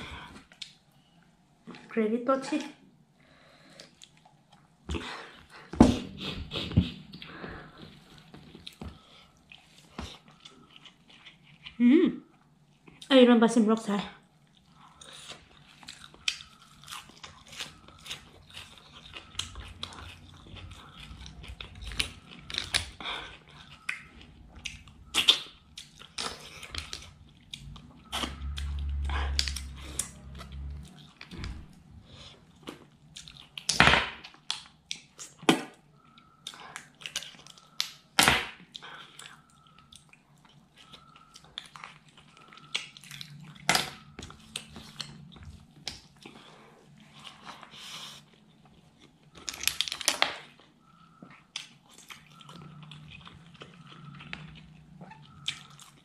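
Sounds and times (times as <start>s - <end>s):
chewing and wet mouth smacks: 3.8s - 5.1s, 7.1s - 11.8s, 14.4s - 56.0s.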